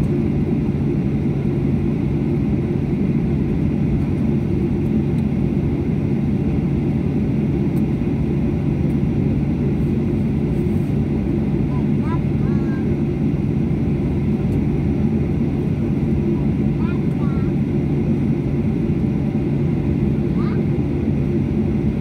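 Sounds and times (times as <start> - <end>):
airliner engine and rolling rumble: 0.0 - 22.0
low cabin hum: 0.0 - 22.0.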